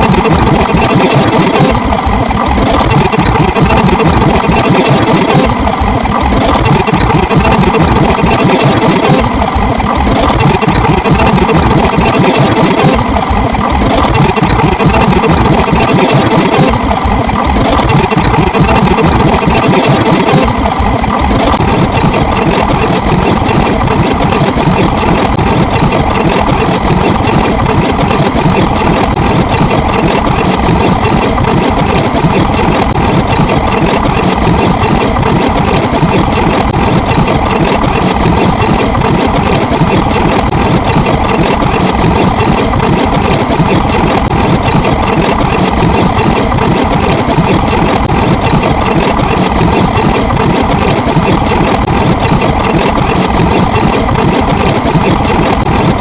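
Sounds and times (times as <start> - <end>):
high-pitched whine: 0.0 - 56.0.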